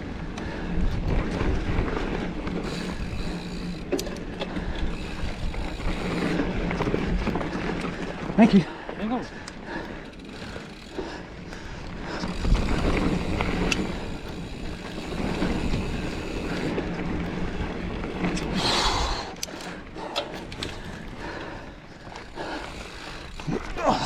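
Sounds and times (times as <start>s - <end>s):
bike clicks and rattles: 0.0s - 24.0s
bike tyre rumble on dirt: 0.0s - 24.0s.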